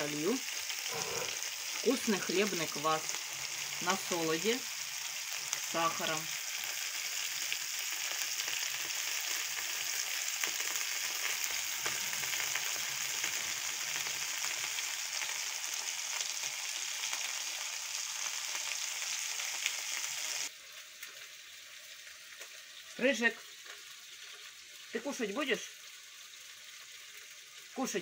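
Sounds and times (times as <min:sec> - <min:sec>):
fish sizzling in a pan: 0:00.0 - 0:28.0.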